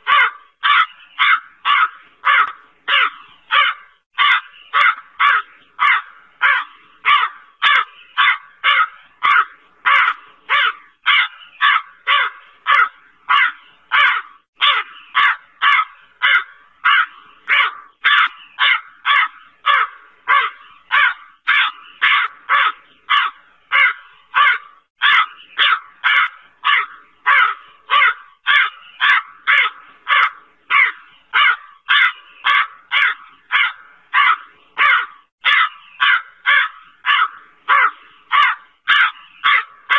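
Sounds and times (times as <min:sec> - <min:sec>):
crow cawing: 0:00.0 - 0:39.9.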